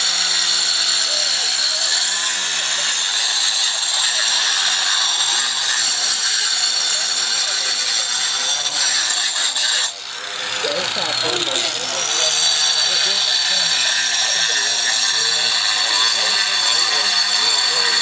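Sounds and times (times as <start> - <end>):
angle grinder cutting stone: 0.0 - 18.0.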